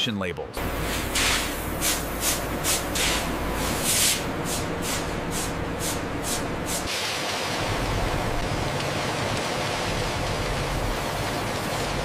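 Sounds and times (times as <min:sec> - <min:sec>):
machinery hum: 0:00.6 - 0:12.0.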